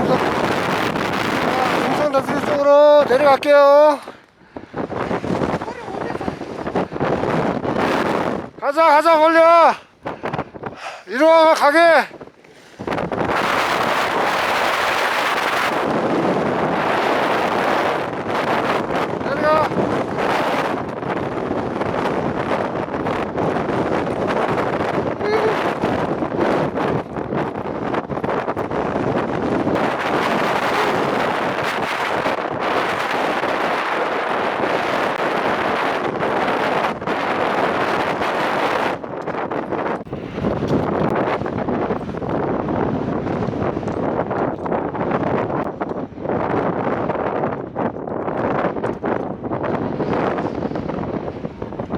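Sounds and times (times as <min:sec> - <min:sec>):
strong wind on microphone: 0:00.0 - 0:51.9.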